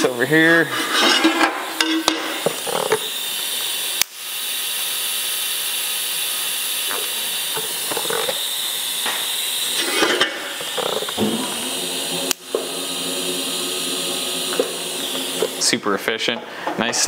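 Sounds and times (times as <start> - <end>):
welding arc hissing: 0.0 - 16.2.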